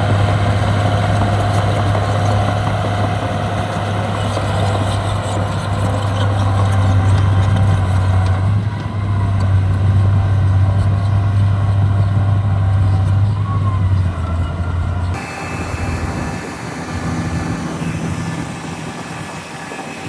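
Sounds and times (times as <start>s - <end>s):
heavy diesel engine humming: 0.0s - 20.0s.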